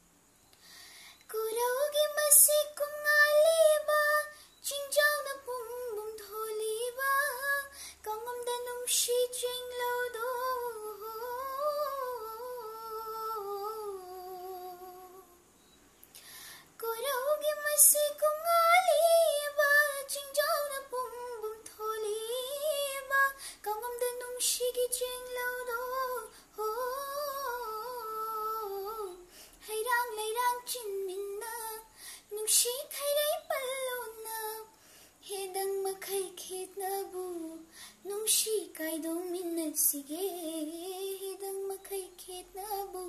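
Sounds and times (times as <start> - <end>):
girl singing unaccompanied: 1.0 - 43.0.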